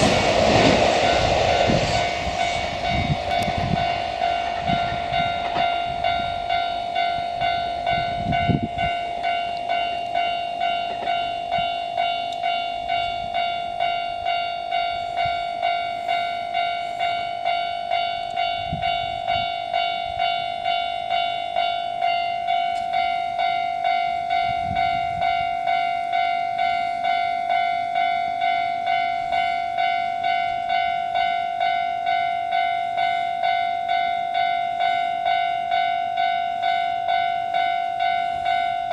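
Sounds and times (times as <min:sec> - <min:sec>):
low train rumble: 0:00.0 - 0:38.9.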